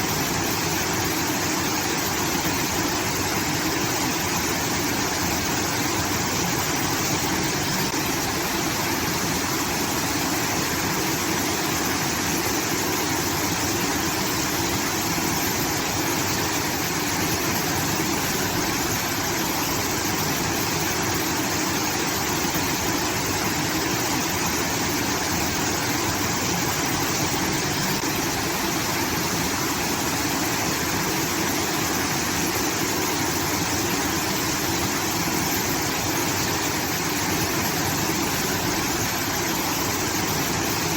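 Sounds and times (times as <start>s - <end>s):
water rushing from irrigation channel: 0.0s - 40.9s.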